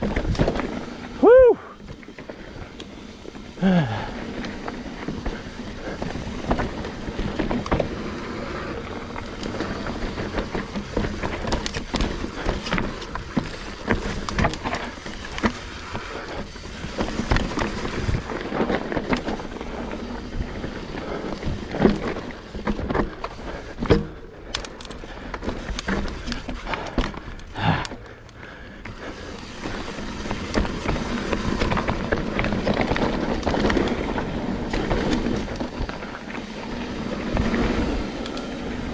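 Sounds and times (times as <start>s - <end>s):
bike knocking and rattling: 0.0s - 38.9s
bike tyres rumbling on dirt: 0.0s - 38.9s.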